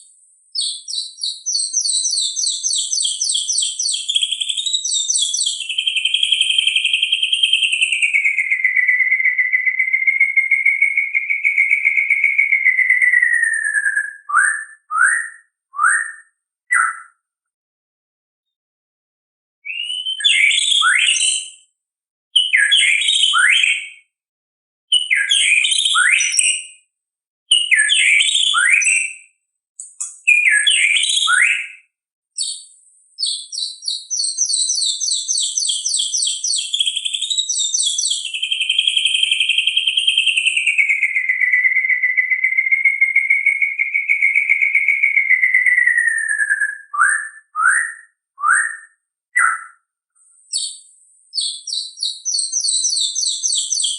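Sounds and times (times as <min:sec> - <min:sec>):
songbird singing whistled notes: 0:00.0 - 0:17.3, 0:19.6 - 0:21.7, 0:22.4 - 0:24.1, 0:24.9 - 0:26.9, 0:27.5 - 0:49.9, 0:50.5 - 0:53.9.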